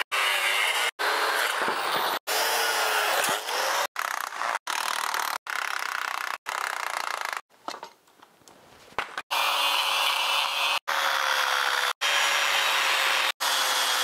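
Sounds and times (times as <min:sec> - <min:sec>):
angle grinder cutting steel: 0:00.0 - 0:07.4, 0:09.3 - 0:14.0.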